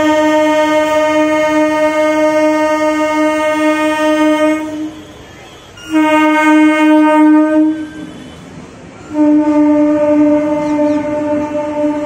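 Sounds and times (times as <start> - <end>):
train horn blasts: 0.0 - 12.0.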